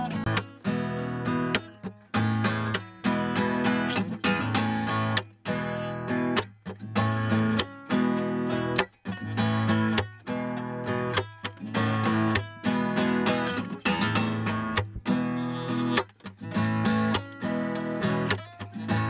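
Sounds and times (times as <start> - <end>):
acoustic guitar strummed chords: 0.0 - 19.0.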